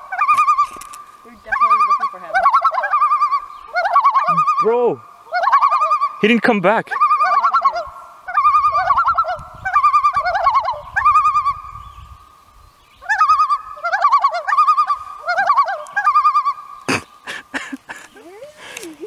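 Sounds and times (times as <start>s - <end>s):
loons quavering tremolo calls: 0.0s - 19.0s.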